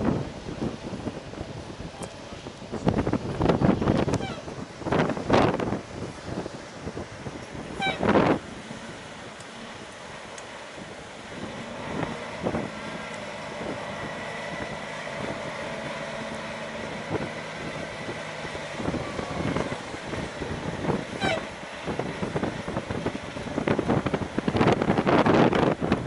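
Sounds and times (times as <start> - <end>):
diesel truck engine humming: 0.1 - 26.0.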